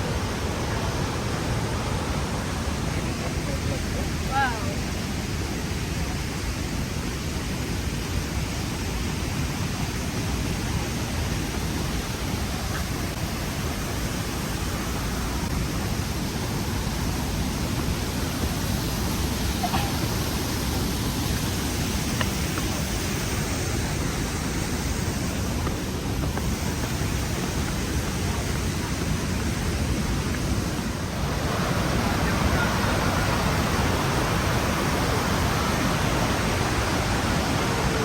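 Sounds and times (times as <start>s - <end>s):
waterfall roaring: 0.0s - 38.0s.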